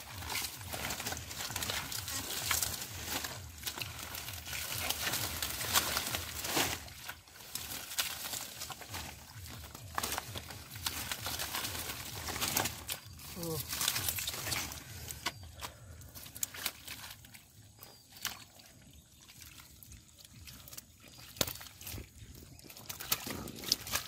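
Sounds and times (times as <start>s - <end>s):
plant stems rustling and snapping: 0.0s - 24.0s.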